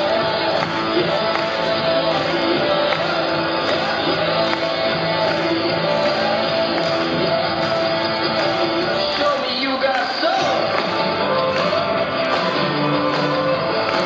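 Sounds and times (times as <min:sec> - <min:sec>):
music over loudspeakers: 0:00.0 - 0:14.0.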